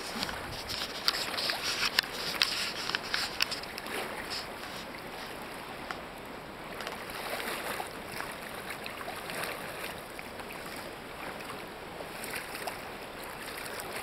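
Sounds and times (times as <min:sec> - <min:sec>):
river water washing: 0:00.0 - 0:14.0.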